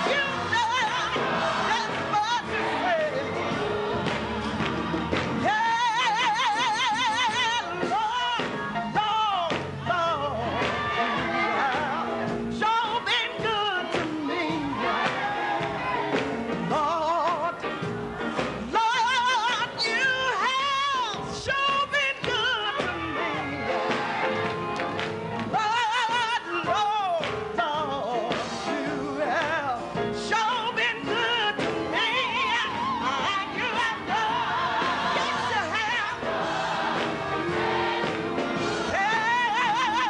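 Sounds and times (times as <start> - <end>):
instrumental backing music: 0.0 - 40.0.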